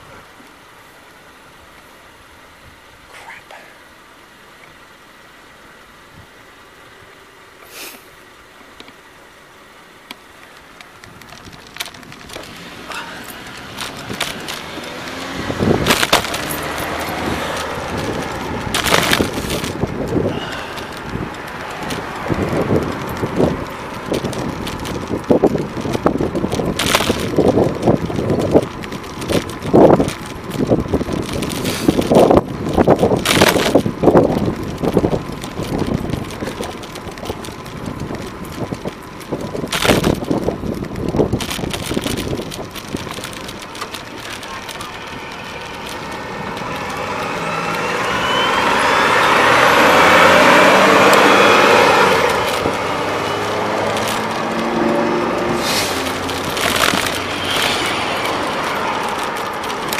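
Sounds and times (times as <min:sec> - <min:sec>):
car traffic: 0:00.0 - 0:59.9
road rumble: 0:00.0 - 0:59.9
bicycle rattling over bumps: 0:08.4 - 0:59.9
wind noise on microphone: 0:10.9 - 0:59.9.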